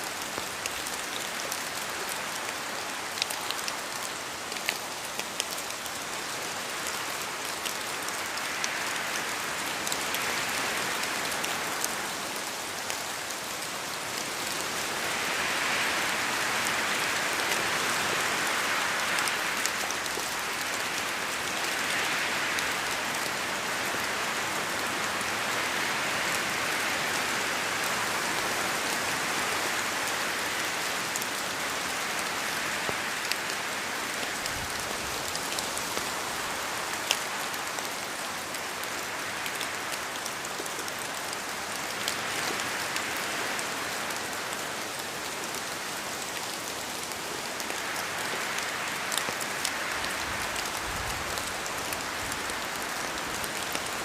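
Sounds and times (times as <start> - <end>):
rain with wind: 0.0 - 54.0.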